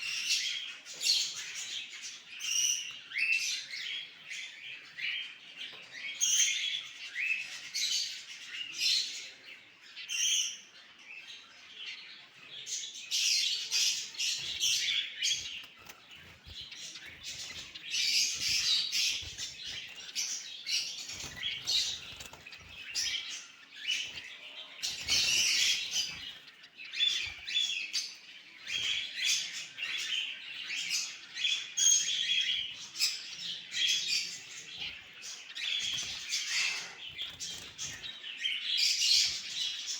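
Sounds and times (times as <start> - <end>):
cockatiels chirping and squawking: 0.0 - 39.9.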